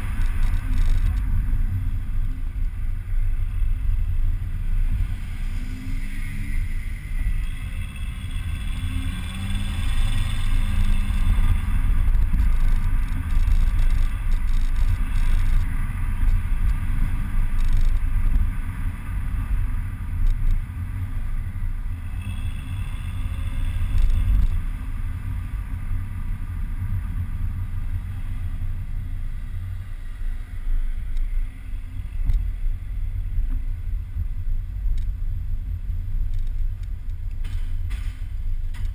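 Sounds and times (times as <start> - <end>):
car engine rumbling: 0.0 - 38.9
turbo whine: 0.0 - 38.9.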